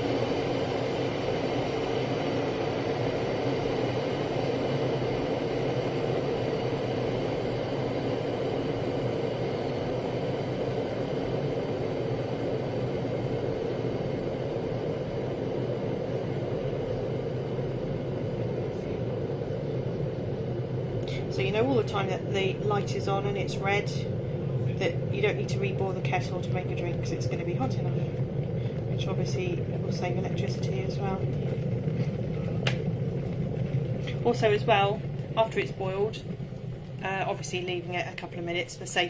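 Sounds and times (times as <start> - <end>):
water boiling in kettle: 0.0 - 39.0.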